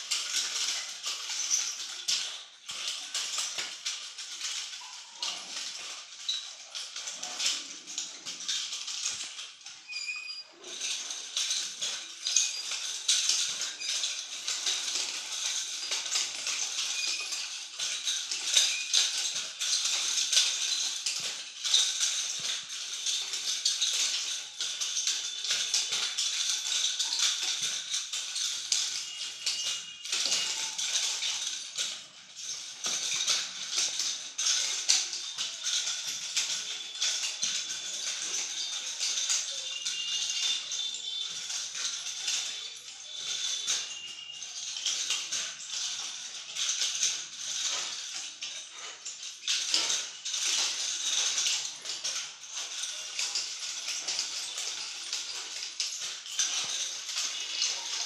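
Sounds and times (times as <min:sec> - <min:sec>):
nunchaku chain rattling: 0:00.0 - 0:58.0.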